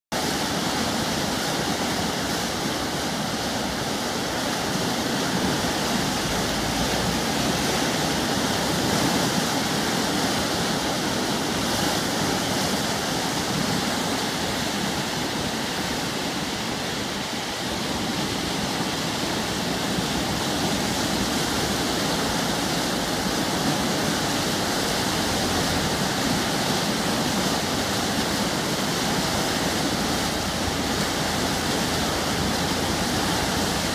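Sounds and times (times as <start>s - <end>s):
floodwater rushing: 0.1s - 33.9s.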